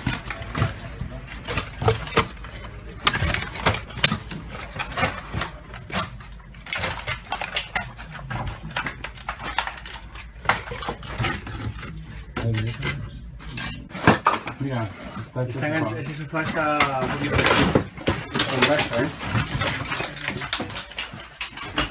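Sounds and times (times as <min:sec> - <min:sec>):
masonry fragments clattering: 0:00.0 - 0:21.9.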